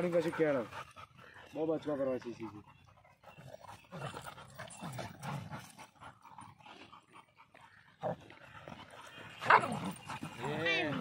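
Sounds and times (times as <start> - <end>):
dogs making low vocal sounds: 0.0 - 11.0.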